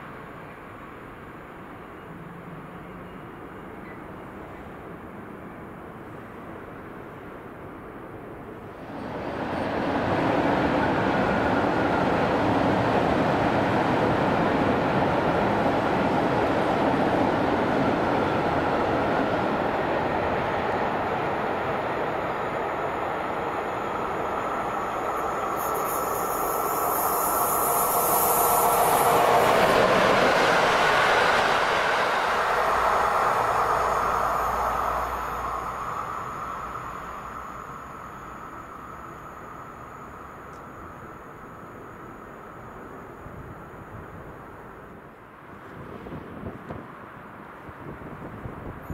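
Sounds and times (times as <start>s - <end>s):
train passing: 0.0s - 48.9s.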